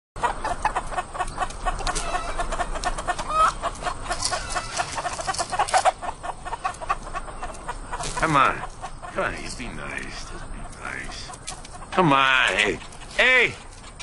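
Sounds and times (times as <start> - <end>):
hens clucking: 0.2 - 14.0.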